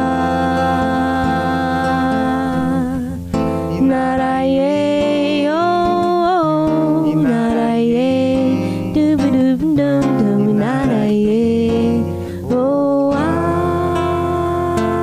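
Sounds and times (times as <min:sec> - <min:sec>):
acoustic guitar: 0:00.0 - 0:15.0
man and woman singing wordlessly: 0:00.0 - 0:15.0.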